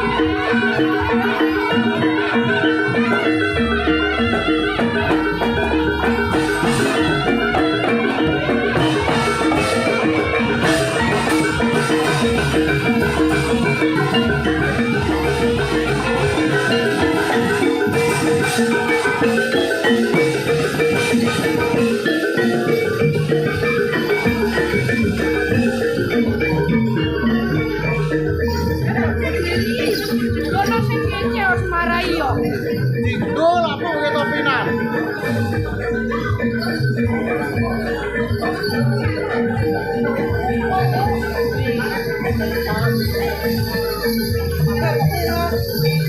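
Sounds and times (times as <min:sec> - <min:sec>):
drums: 0:00.0 - 0:46.0
gamelan metallophones: 0:00.0 - 0:46.0.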